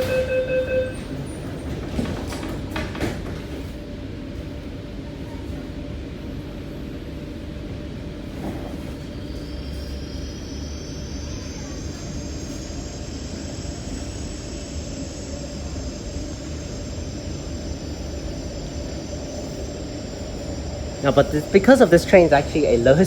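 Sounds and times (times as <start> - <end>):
metro train rumble: 0.0 - 23.0.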